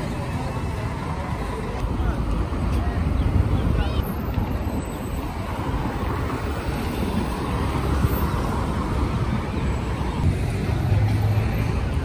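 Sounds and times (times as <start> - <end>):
cars driving past: 0.0 - 12.0
low rumble of engines and tyres: 0.0 - 12.0.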